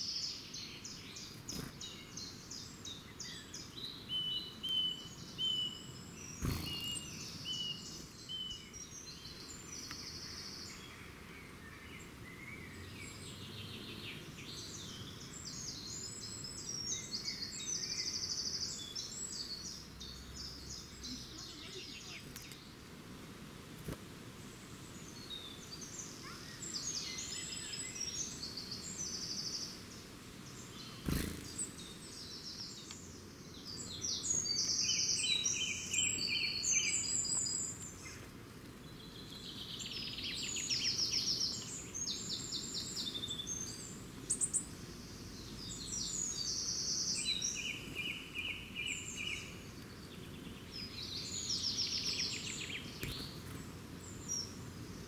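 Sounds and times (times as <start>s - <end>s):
songbirds trilling: 0.0s - 23.0s, 23.8s - 55.0s.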